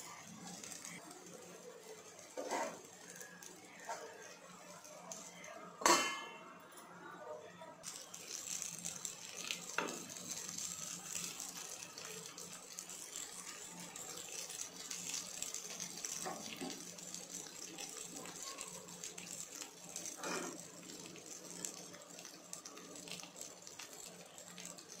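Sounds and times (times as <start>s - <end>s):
frying sizzle: 0.0s - 6.3s, 7.8s - 25.0s.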